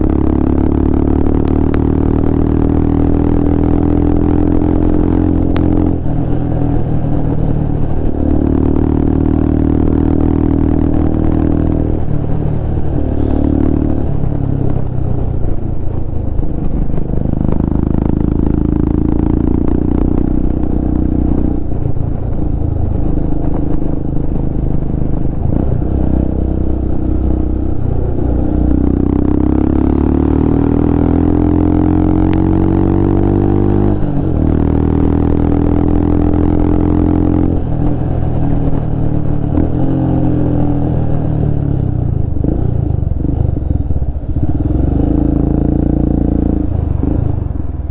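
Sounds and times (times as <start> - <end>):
motorcycle exhaust note: 0.0 - 47.9.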